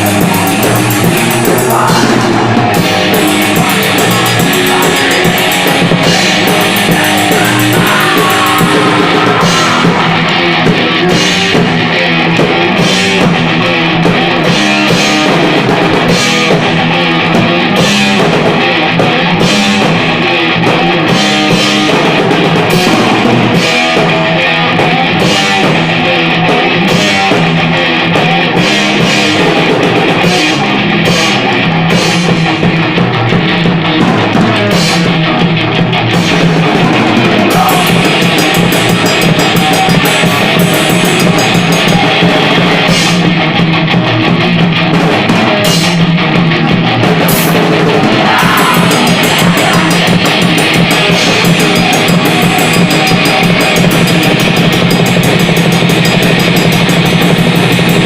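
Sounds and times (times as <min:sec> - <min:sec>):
distorted electric guitars: 0:00.0 - 0:58.0
drum kit: 0:00.0 - 0:58.0.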